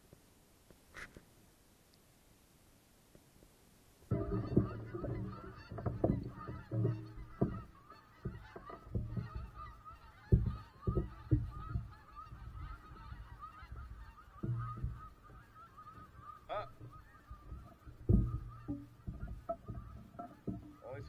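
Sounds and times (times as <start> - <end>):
distant bird calls: 4.0 - 21.0
kayak paddle knocks and thumps: 4.1 - 21.0.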